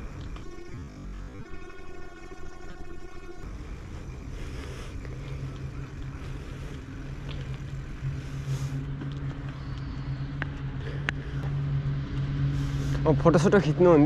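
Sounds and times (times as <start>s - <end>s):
steady low hum: 0.0s - 14.0s
wind and road noise: 0.0s - 14.0s.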